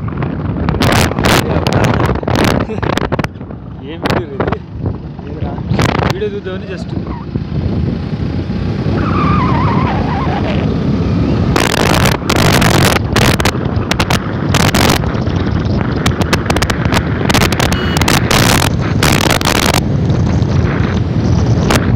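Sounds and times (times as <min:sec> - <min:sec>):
motorcycle running: 0:00.0 - 0:21.9
wind buffeting microphone: 0:00.0 - 0:21.9.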